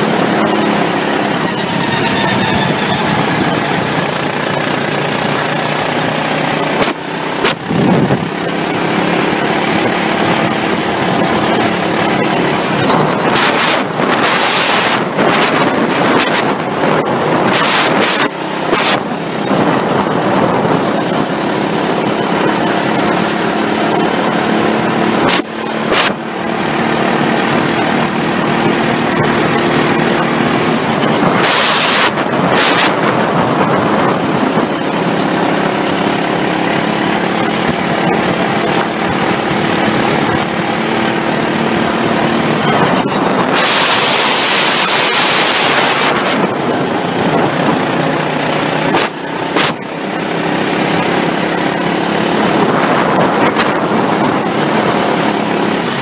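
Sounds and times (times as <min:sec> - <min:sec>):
kart engine racing: 0:00.0 - 0:56.0
wind rushing on microphone: 0:00.0 - 0:56.0.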